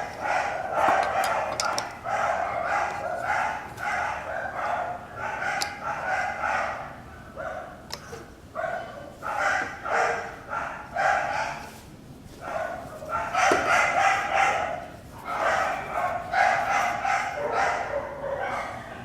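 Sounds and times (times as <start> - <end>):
dog barking: 0.0 - 11.8, 12.4 - 19.0.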